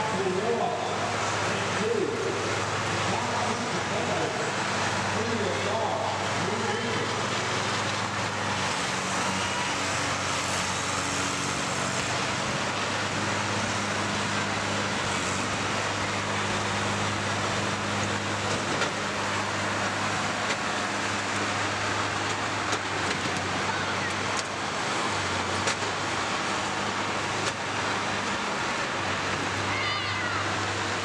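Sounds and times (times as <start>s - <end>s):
engines droning: 0.0s - 31.0s.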